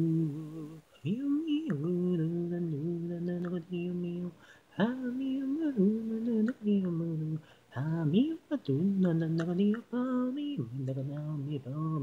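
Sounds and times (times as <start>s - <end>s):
person singing a cappella: 0.0s - 12.0s.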